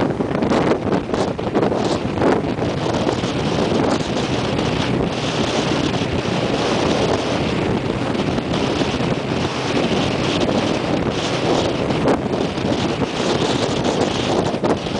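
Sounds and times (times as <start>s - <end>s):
motorcycle engine running: 0.0s - 14.9s
wind buffeting microphone: 0.0s - 14.9s.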